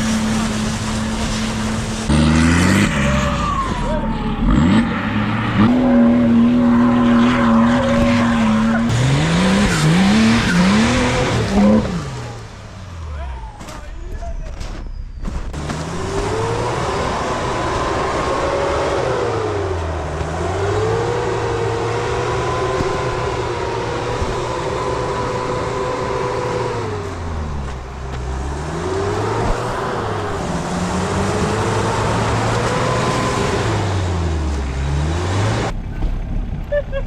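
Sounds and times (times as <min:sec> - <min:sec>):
off-road vehicle engine revving: 0:00.0 - 0:13.8, 0:14.5 - 0:36.0.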